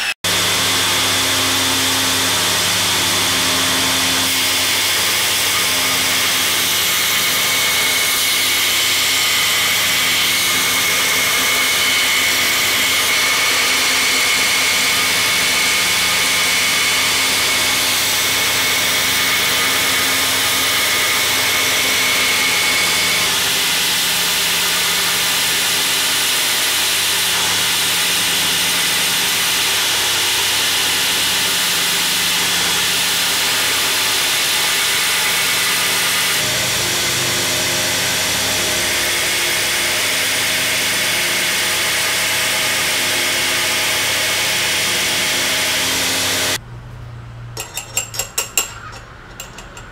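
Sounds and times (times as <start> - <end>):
belt grinder grinding hiss: 0.0 - 46.6
motor hum: 0.0 - 46.6.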